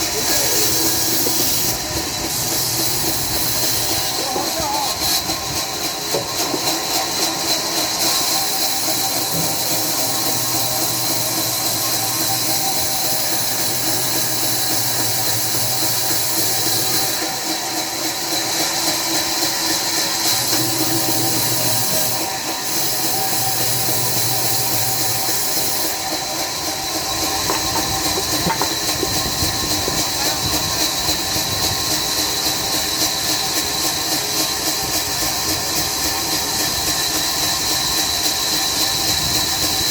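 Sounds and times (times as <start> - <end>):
sawmill saw whining through log: 0.0 - 39.9.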